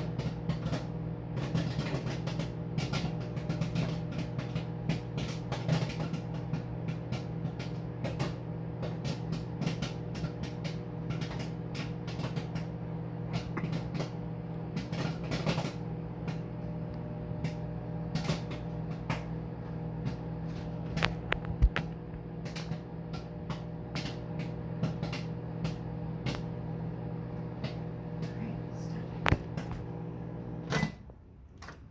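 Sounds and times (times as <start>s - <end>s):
microwave oven humming: 0.0s - 31.2s
popcorn popping: 0.0s - 31.8s.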